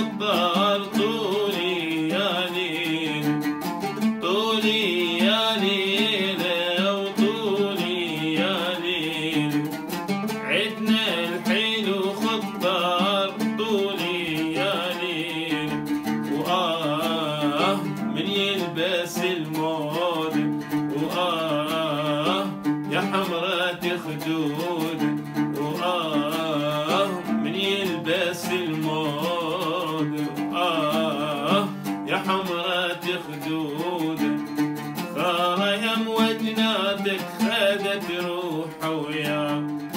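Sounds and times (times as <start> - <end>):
man singing: 0.0 - 39.9
oud plucked with plectrum: 0.0 - 39.9.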